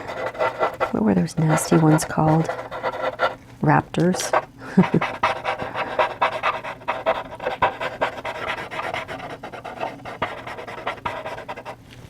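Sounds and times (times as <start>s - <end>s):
charcoal rubbing on paper: 0.0s - 3.4s, 4.1s - 11.8s.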